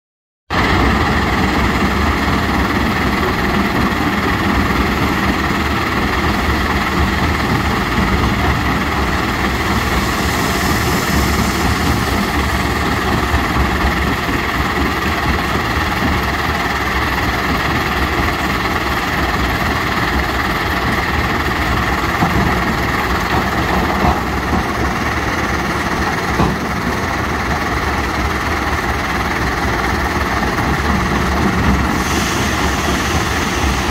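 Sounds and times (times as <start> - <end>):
diesel engines and crushing machinery: 0.5 - 33.9.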